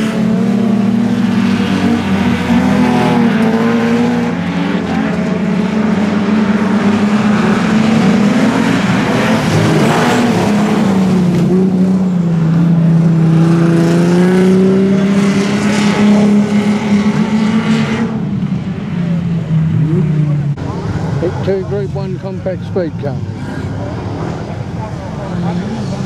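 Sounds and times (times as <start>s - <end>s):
race car engines circling: 0.0s - 26.0s.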